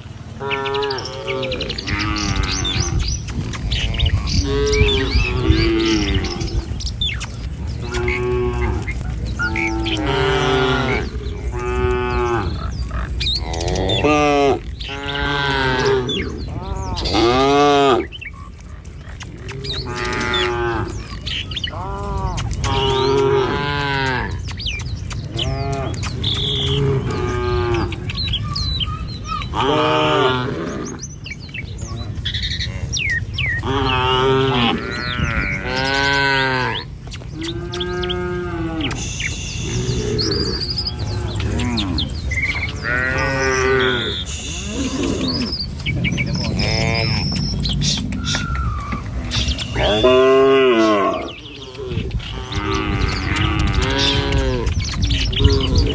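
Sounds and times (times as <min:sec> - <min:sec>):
steady low rumble: 0:00.0 - 0:30.2, 0:30.8 - 0:55.9
cattle mooing: 0:00.3 - 0:03.0, 0:03.8 - 0:06.8, 0:07.4 - 0:24.4, 0:25.3 - 0:28.1, 0:29.5 - 0:31.0, 0:32.1 - 0:55.9.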